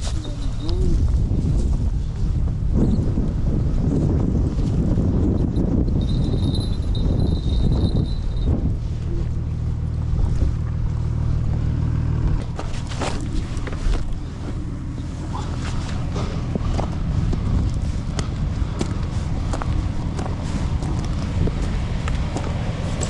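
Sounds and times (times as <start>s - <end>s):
vehicle engine running: 0.0s - 23.0s
wind buffeting microphone: 0.0s - 23.0s.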